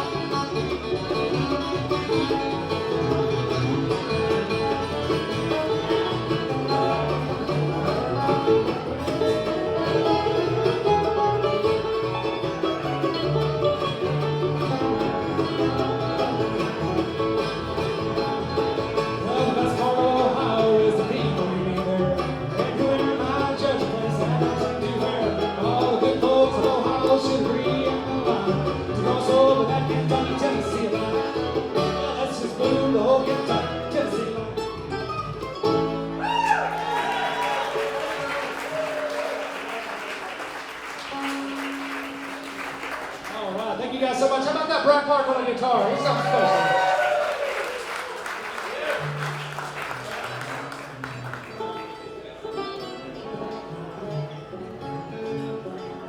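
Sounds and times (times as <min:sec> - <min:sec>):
bluegrass band playing: 0:00.0 - 0:56.0.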